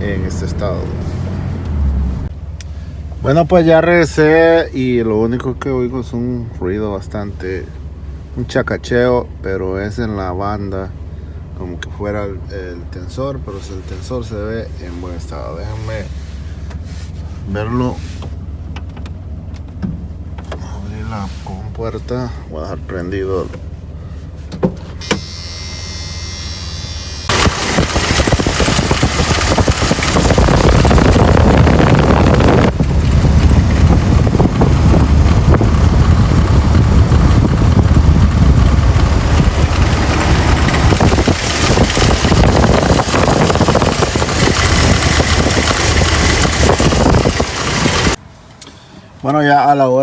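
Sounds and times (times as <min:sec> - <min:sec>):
car engine idling: 0:00.0 - 0:49.4.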